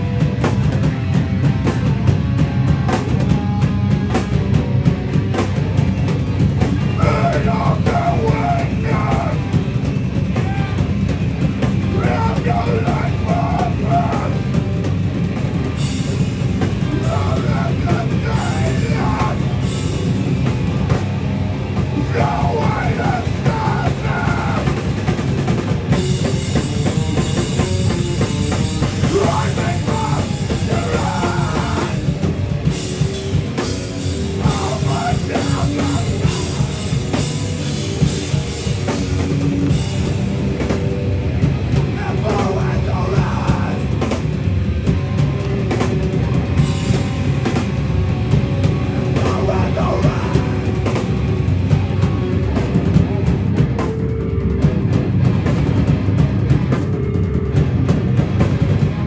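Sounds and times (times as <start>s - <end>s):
hardcore band playing live: 0.0s - 59.0s.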